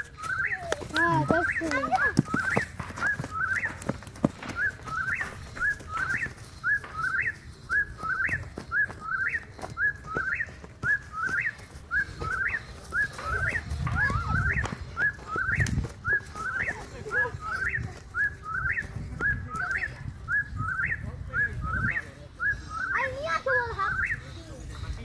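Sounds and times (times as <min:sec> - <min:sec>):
bird calling: 0:00.0 - 0:25.0.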